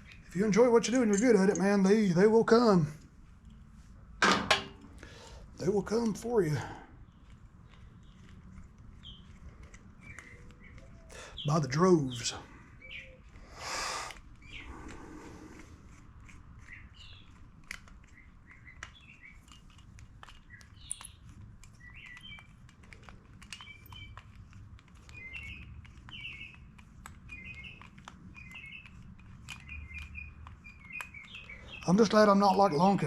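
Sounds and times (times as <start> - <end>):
small birds chirping: 0.0 - 2.8, 5.0 - 33.0.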